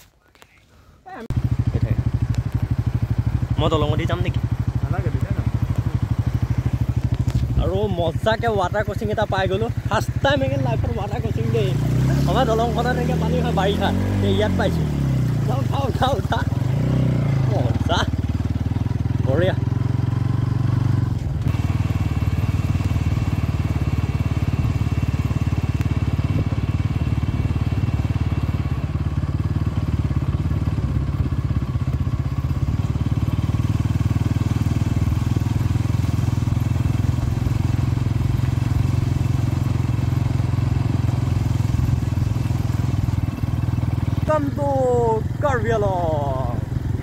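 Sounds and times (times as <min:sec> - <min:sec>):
motorcycle engine drone: 0:01.1 - 0:47.0.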